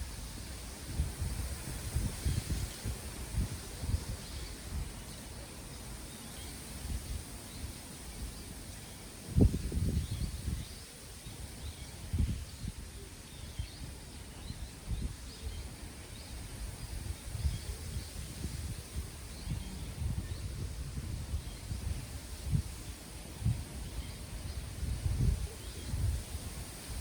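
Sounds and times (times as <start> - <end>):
wind gusting on microphone: 0.0 - 27.0.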